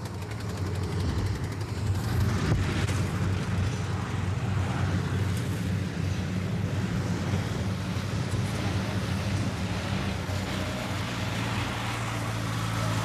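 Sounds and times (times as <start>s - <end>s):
combine harvester engine hum: 0.0s - 13.0s.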